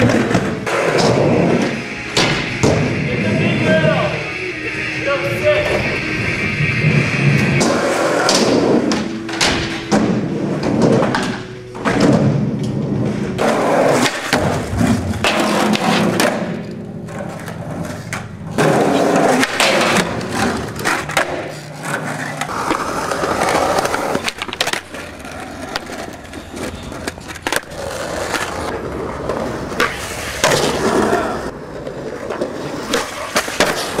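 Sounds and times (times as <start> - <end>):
skateboards rolling on concrete: 0.0 - 34.0
skateboard ledge grind: 5.4 - 34.0.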